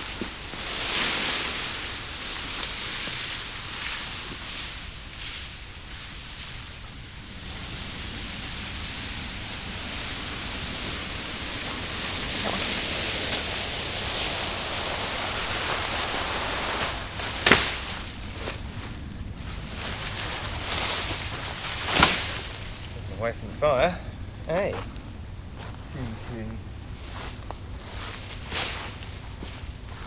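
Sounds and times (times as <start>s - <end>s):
leaves and branches rustling: 0.0s - 30.0s.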